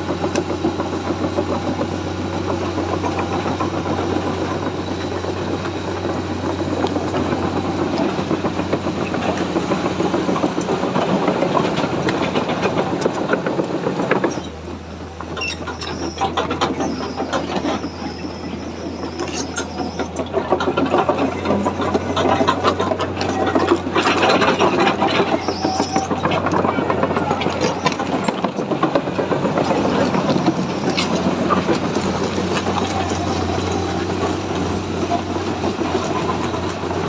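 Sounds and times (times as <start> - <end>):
excavator diesel engine rattling: 0.0 - 37.0.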